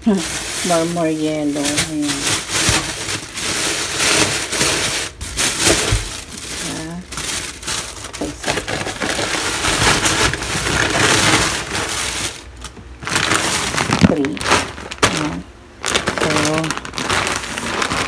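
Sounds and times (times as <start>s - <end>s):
plastic bags rustling: 0.0s - 18.0s.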